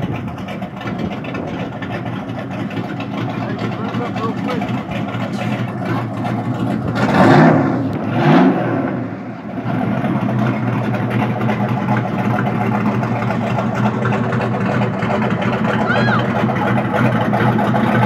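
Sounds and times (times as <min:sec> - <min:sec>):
engine revving and idling: 0:00.0 - 0:18.0.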